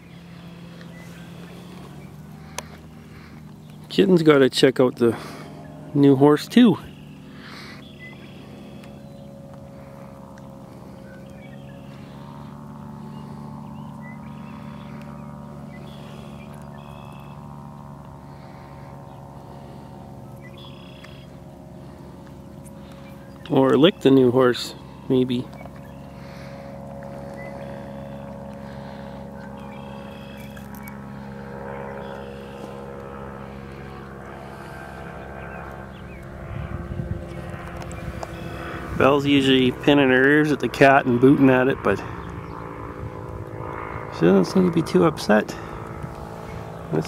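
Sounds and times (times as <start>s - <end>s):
motor drone: 0.0s - 47.0s
steady machine hum: 0.0s - 47.0s.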